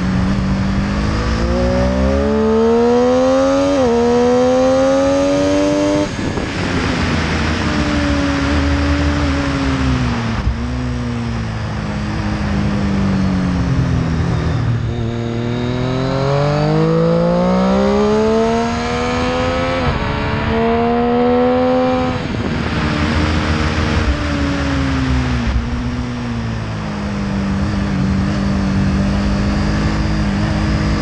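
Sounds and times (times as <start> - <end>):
wind rush: 0.0 - 17.0, 17.9 - 28.8
motorcycle engine revving: 0.0 - 31.0.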